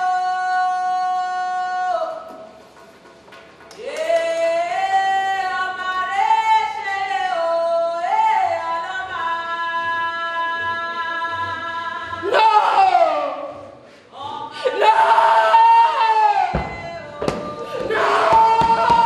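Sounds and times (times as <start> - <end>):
woman singing slow melody: 0.0 - 2.3, 3.8 - 14.9, 15.8 - 19.0.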